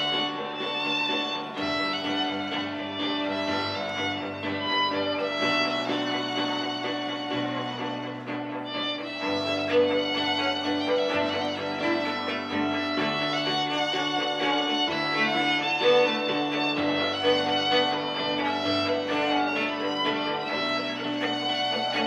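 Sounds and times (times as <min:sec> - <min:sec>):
violin cello and keyboard trio: 0:00.0 - 0:22.0.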